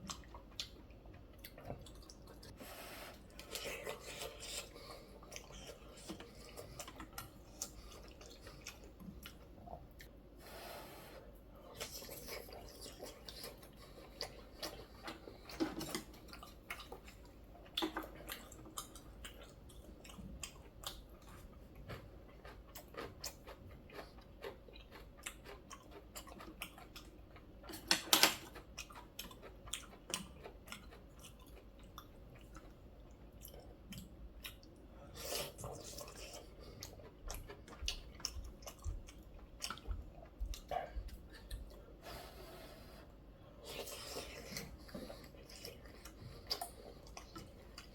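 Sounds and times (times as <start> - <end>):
man chewing noodles: 0.0 - 47.9.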